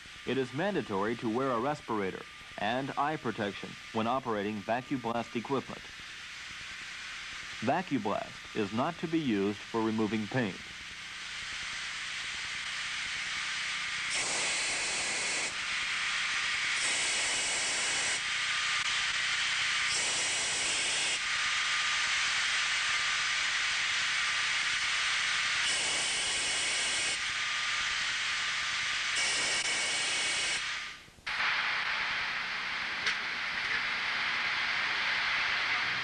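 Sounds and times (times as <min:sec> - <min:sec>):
abrasive blasting machine hissing: 0:00.0 - 0:32.1.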